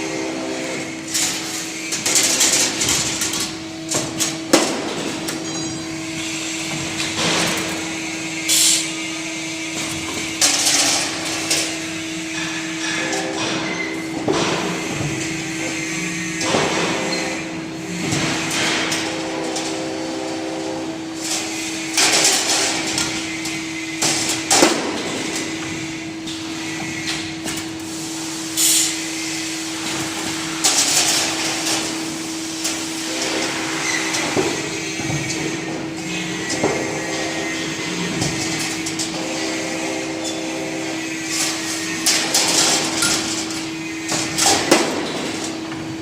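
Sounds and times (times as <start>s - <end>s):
machine humming: 0.0s - 46.0s.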